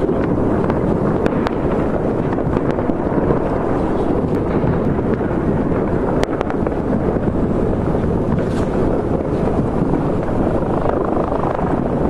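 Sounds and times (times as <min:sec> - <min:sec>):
distant fireworks rumble: 0:00.0 - 0:12.0
sharp firework cracks: 0:00.0 - 0:12.0.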